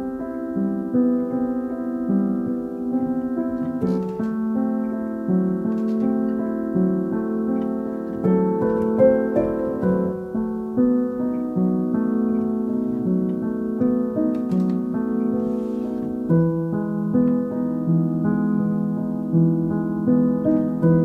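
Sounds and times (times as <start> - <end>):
calm piano music: 0.0 - 21.0.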